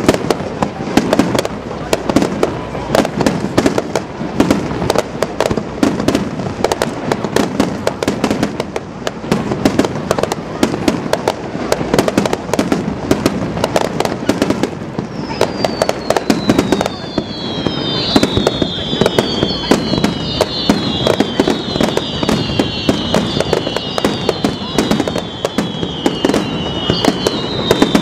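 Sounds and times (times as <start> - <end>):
fireworks bursting and crackling: 0.0 - 28.0.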